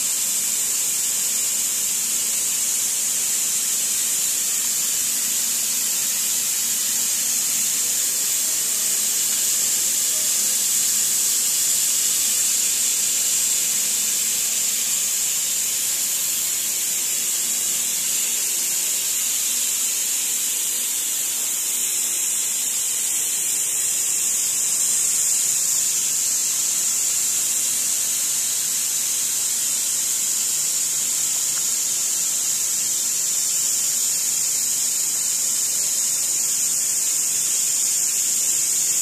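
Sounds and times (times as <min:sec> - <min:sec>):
high-pitched hiss: 0:00.0 - 0:39.0.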